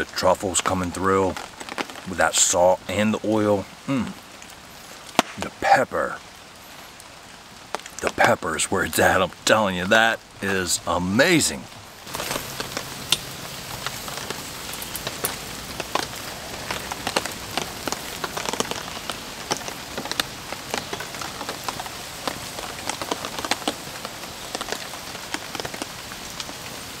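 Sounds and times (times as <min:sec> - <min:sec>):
rain falling: 0:00.0 - 0:27.0
sharp raindrop hits: 0:00.0 - 0:27.0.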